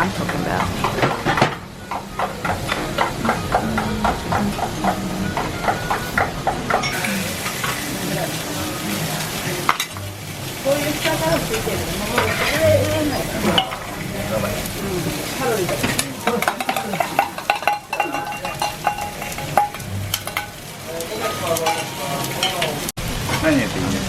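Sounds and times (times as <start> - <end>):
utensils and dishes clinking: 0.0 - 23.6
faint background voices: 0.0 - 24.0
food sizzling: 0.0 - 24.0.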